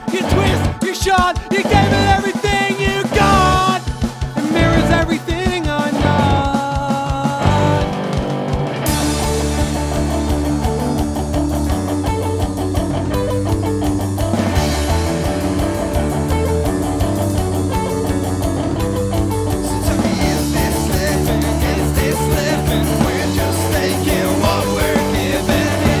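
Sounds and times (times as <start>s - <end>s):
instrumental punk rock: 0.0s - 26.0s.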